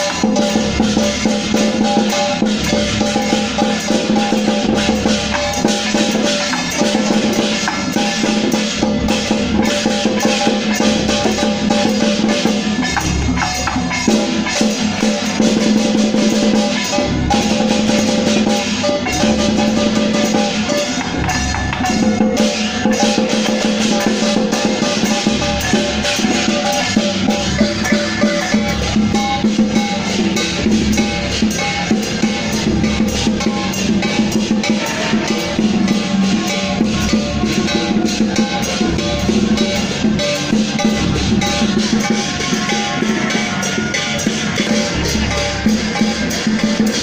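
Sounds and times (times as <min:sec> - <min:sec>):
clashing cymbals and gongs: 0:00.0 - 0:47.0
drums beaten rapidly: 0:00.0 - 0:47.0.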